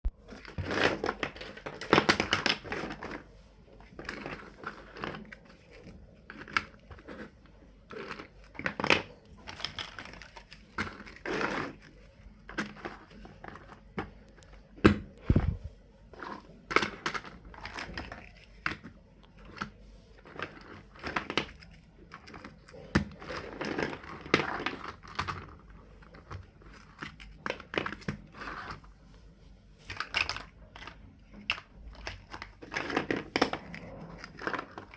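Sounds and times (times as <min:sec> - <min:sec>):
plastic building blocks clicking: 0:00.3 - 0:03.2, 0:04.0 - 0:07.3, 0:07.9 - 0:14.6, 0:16.3 - 0:28.8, 0:29.9 - 0:34.9.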